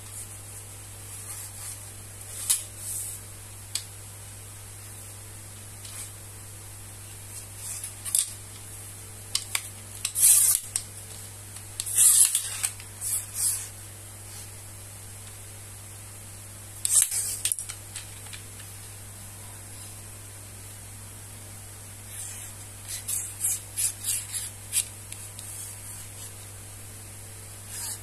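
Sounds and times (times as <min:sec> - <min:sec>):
low hum and hiss: 0:00.0 - 0:28.0.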